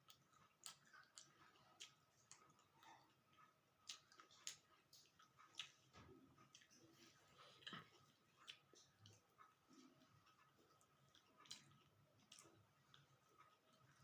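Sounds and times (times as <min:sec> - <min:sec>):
chewing clicks and smacks: 0:00.0 - 0:14.0.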